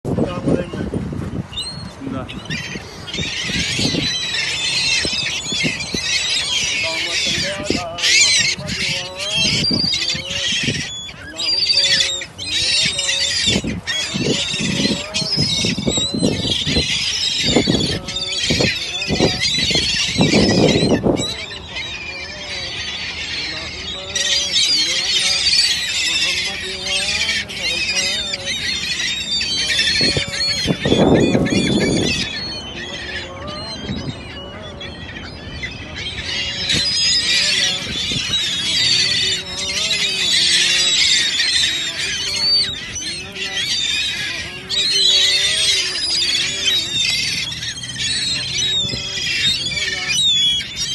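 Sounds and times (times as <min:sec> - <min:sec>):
small birds chirping: 0:00.3 - 0:50.9.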